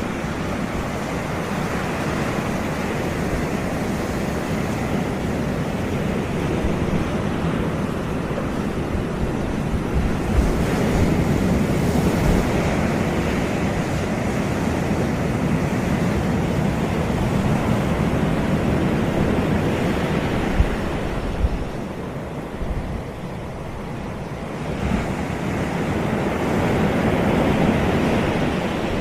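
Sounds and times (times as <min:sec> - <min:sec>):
sea surf breaking on beach: 0:00.0 - 0:29.0
wind rumbling on microphone: 0:00.0 - 0:29.0.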